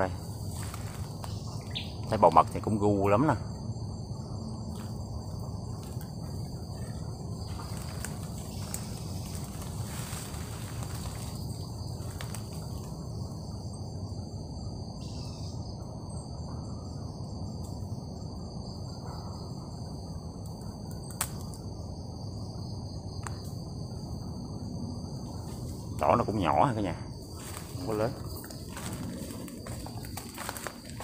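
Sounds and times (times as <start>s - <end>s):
insects chorusing: 0.0s - 31.0s.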